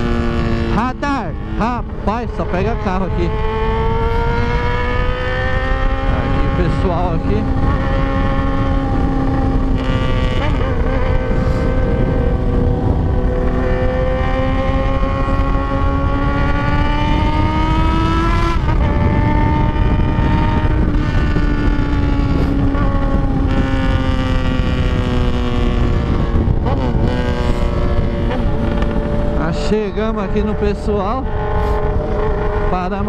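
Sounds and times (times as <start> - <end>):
motorcycle engine running: 0.0 - 33.0
wind rushing over microphone: 0.0 - 33.0.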